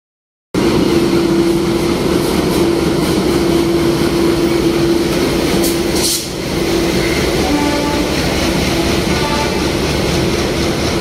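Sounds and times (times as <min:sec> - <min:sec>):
diesel locomotive engine droning: 0:00.6 - 0:11.0.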